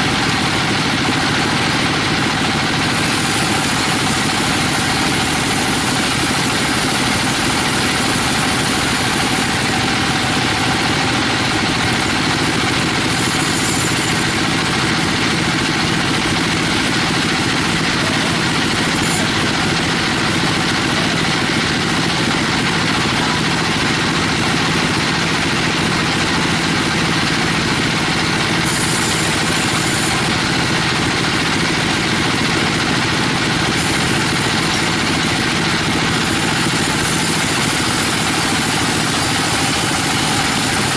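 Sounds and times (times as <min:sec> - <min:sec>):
bandsaw mill drone: 0:00.0 - 0:40.9
saw blade cutting wood: 0:00.0 - 0:40.9.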